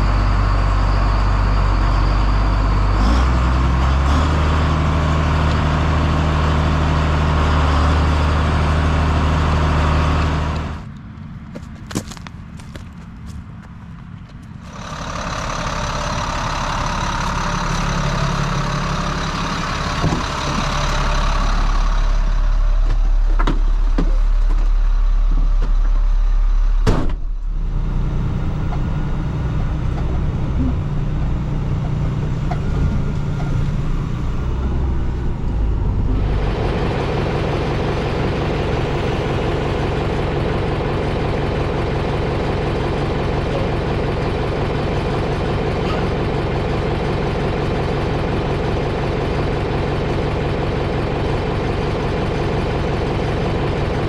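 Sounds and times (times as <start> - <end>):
heavy farm vehicle engine: 0.0 - 54.0.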